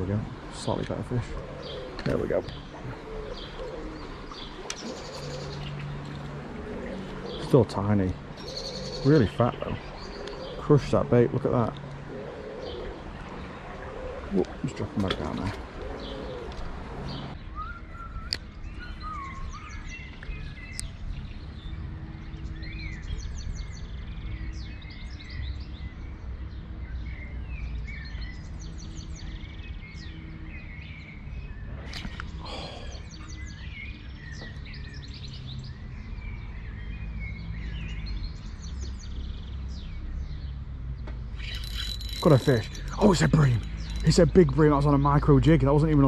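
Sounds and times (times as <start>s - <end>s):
songbirds chirping and singing: 0.0s - 46.0s.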